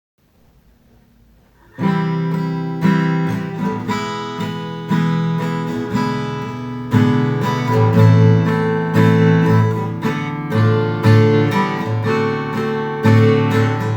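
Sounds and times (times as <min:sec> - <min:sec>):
acoustic guitar strumming chords: 0:01.2 - 0:13.9.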